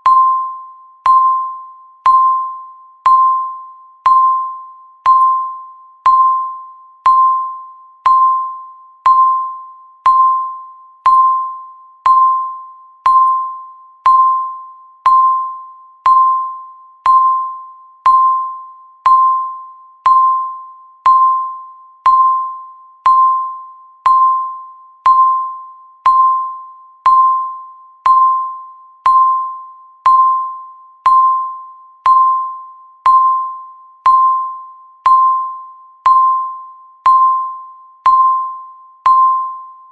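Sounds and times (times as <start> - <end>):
electronic timer ticking pings: 0.0 - 39.9.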